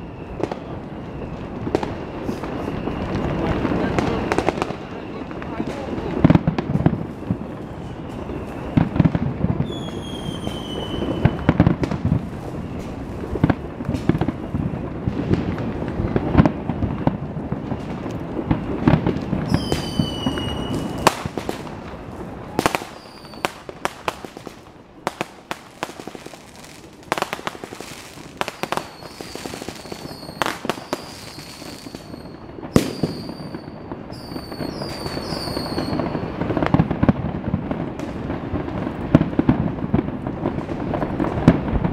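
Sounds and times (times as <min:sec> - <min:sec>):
fireworks booming and cracking: 0:00.0 - 0:41.9
whistling fireworks: 0:00.0 - 0:41.9.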